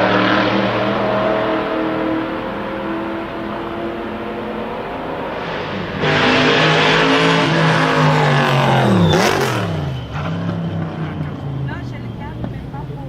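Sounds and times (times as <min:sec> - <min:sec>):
car engine exhaust roaring: 0:00.0 - 0:13.0.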